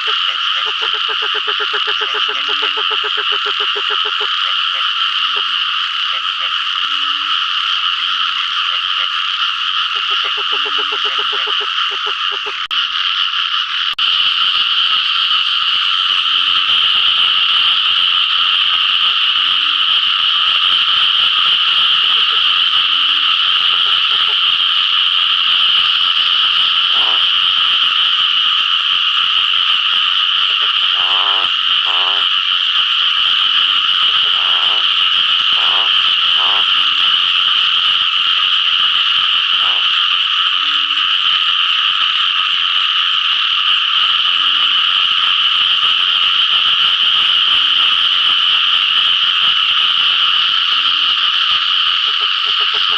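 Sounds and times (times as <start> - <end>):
faint low frog calls: 0.0 - 52.9
frog chorus: 0.0 - 52.9.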